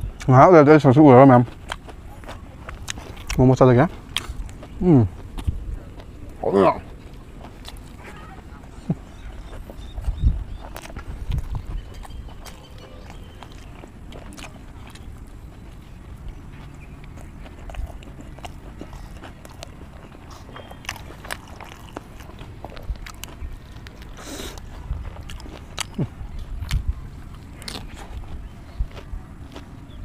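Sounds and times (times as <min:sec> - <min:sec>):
person chewing and biting food: 0:01.4 - 0:08.0, 0:09.1 - 0:30.0.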